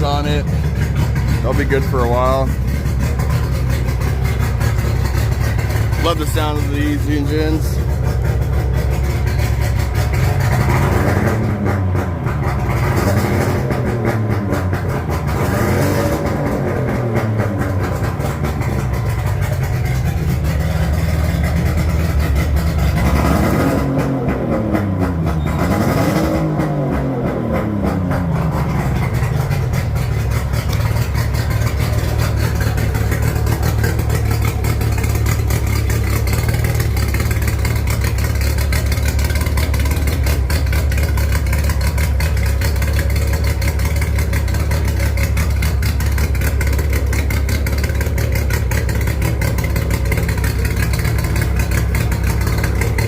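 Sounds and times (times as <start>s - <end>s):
outboard motor running: 0.0s - 24.2s, 28.0s - 53.0s.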